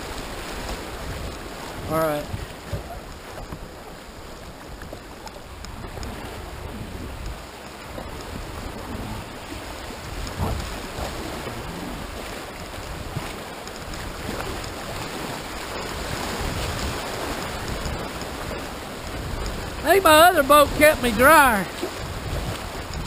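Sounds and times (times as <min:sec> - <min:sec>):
whitewater splashing at kayak hull: 0:00.0 - 0:23.0
wind rumble on microphone: 0:00.0 - 0:23.0.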